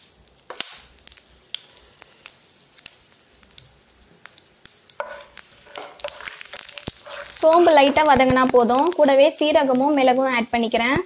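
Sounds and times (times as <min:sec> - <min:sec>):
seeds hissing in hot oil: 0:00.0 - 0:11.0
spices popping and crackling: 0:00.0 - 0:11.0.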